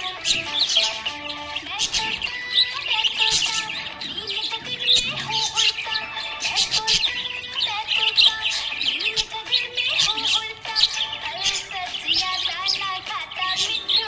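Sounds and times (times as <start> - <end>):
budgerigars chirping and warbling: 0.0 - 14.0.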